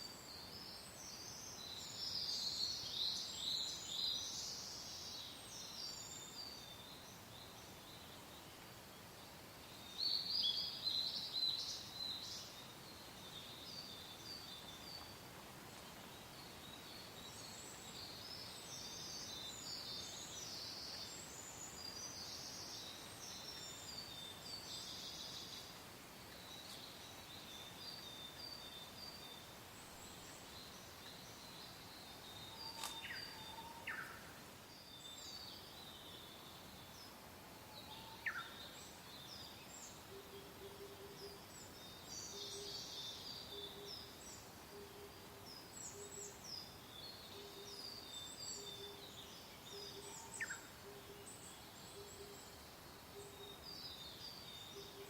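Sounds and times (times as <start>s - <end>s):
small birds chirping and trilling: 0.0s - 55.0s
soft hiss of wind: 0.0s - 55.0s.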